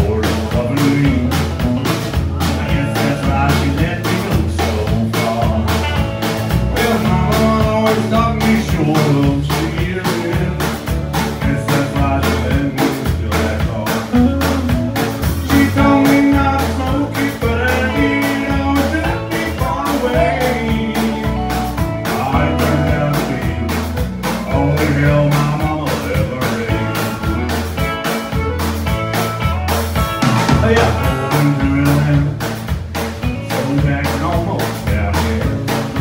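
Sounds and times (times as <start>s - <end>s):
man singing: 0.0s - 28.4s, 30.4s - 36.0s
drum kit beat: 0.0s - 36.0s
strummed acoustic guitar: 0.0s - 36.0s.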